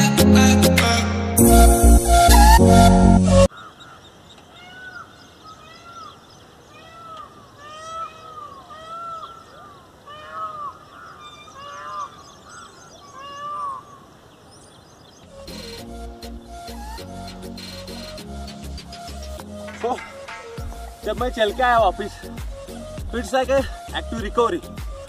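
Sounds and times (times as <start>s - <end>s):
birds calling: 3.4s - 25.0s.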